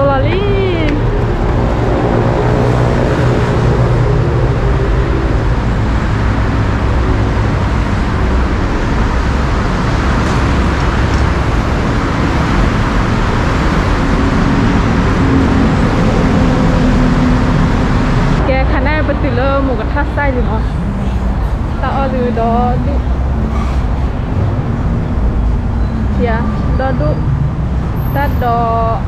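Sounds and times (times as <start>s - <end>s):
dense highway traffic: 0.0s - 29.0s
heavy vehicle engine: 0.0s - 29.0s.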